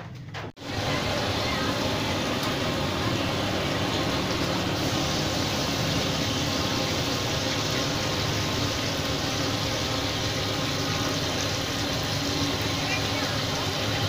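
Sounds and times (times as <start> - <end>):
hot oil sizzling: 0.6 - 14.0.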